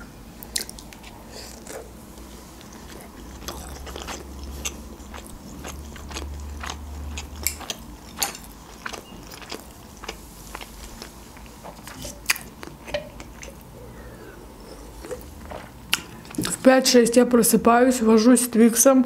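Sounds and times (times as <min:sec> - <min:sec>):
faint low hum: 0:00.0 - 0:19.0
chewing noodles: 0:00.4 - 0:13.7, 0:14.6 - 0:16.6.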